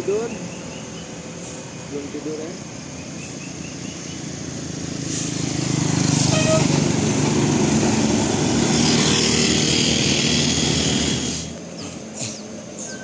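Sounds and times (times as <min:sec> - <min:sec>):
bus engine passing: 0:00.0 - 0:13.0.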